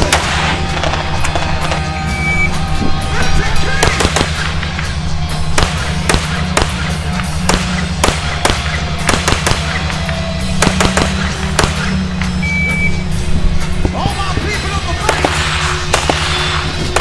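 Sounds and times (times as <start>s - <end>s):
rifle shots: 0.0s - 2.0s, 3.2s - 12.3s, 13.8s - 17.0s
music with heavy bass: 0.0s - 17.0s.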